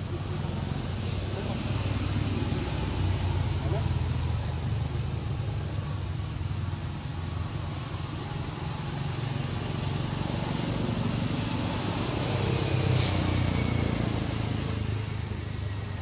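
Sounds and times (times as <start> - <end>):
constant hiss: 0.0 - 16.0.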